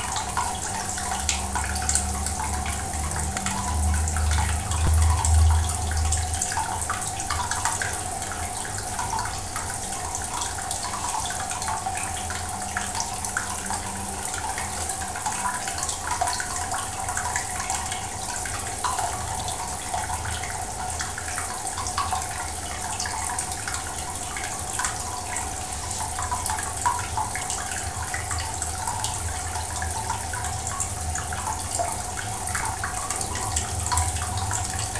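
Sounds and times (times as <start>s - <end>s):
faint steady hum: 0.0s - 34.9s
water drips and bubbles: 0.0s - 34.9s
water trickling: 0.0s - 34.9s.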